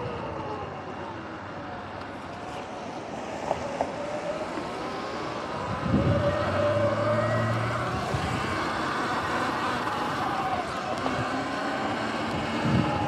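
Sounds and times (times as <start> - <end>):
tyres on wet pavement: 0.0 - 13.0.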